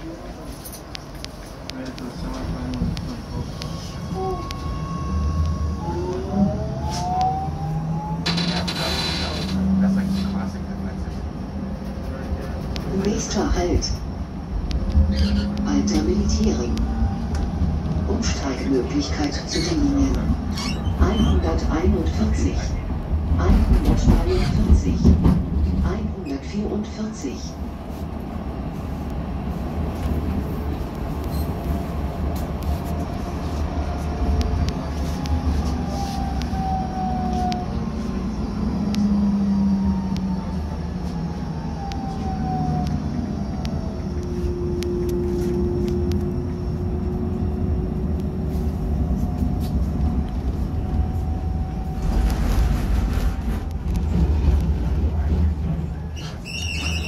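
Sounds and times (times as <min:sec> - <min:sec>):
tram wheels rumbling on rail: 0:00.0 - 0:57.0
tram motor whine: 0:01.2 - 0:20.7, 0:28.4 - 0:56.1.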